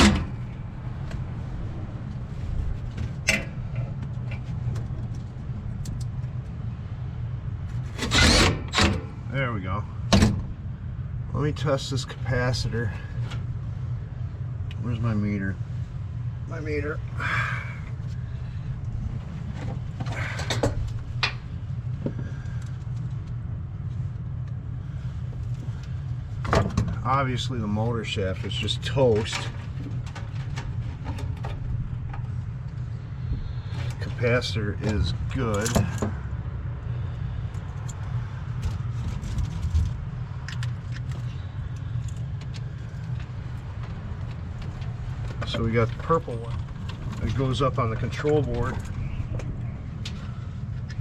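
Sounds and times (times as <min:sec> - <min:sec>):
low mechanical hum: 0:00.0 - 0:51.0
steady low rumble: 0:00.0 - 0:51.0.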